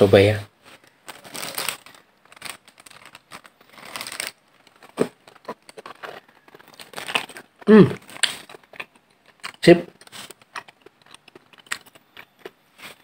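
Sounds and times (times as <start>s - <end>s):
paper wrapper crinkling: 0.6s - 13.0s.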